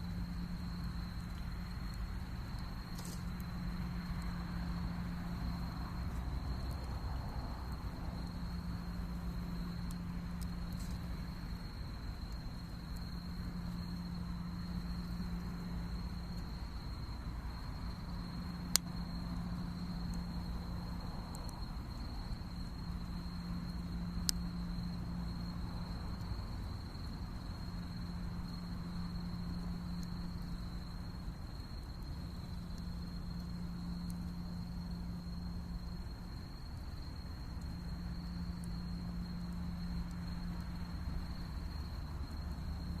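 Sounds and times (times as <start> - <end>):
insects trilling: 0.0 - 43.0
low background rumble: 0.0 - 43.0.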